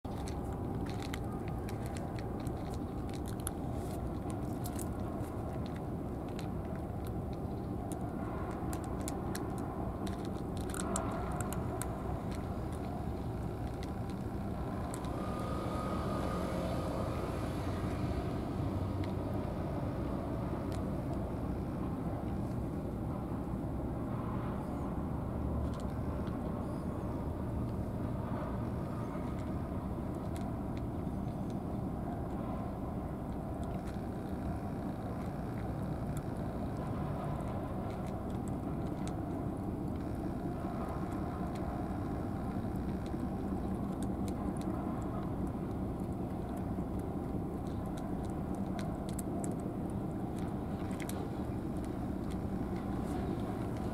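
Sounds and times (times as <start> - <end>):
road traffic rumble: 0.0 - 53.9
cats chewing dry kibble: 0.1 - 23.6, 25.6 - 53.9.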